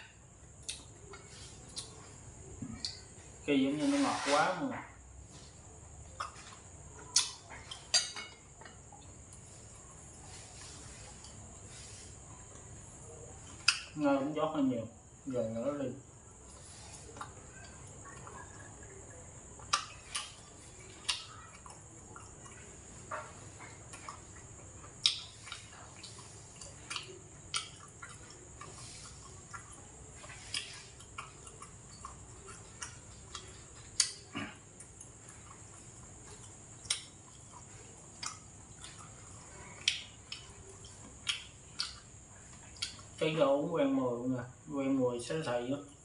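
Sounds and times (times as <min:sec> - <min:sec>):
steady high-pitched hiss: 0:00.0 - 0:46.0
person chewing food: 0:00.2 - 0:03.5, 0:05.2 - 0:14.0, 0:15.1 - 0:43.2.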